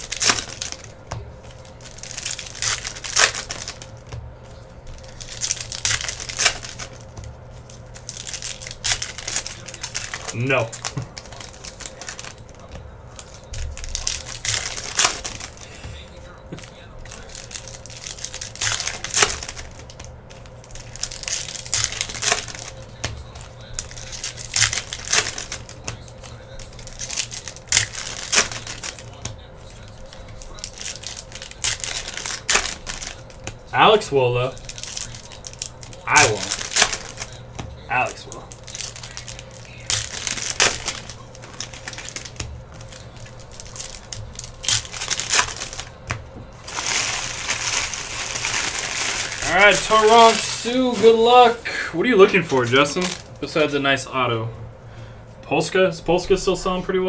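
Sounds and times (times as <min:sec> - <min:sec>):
foil wrappers crinkling and tearing: 0:00.0 - 0:53.8.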